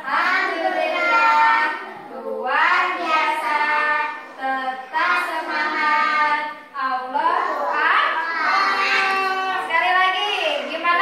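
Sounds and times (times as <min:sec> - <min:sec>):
children singing together: 0:00.0 - 0:09.7.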